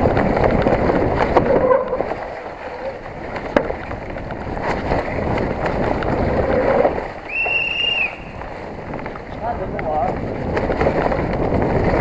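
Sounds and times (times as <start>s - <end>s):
bike knocking and rattling: 0.0s - 12.0s
wind and tyre noise: 0.0s - 12.0s.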